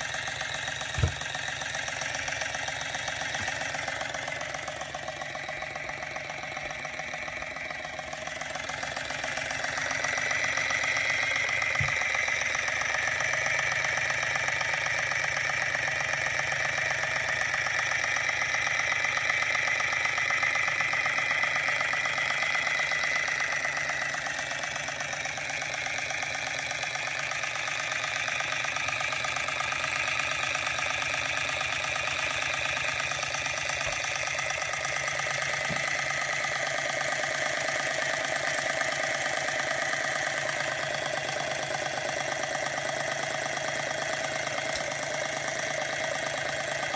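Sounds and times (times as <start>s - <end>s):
toy steam engine mechanical beat: 0.0s - 46.9s.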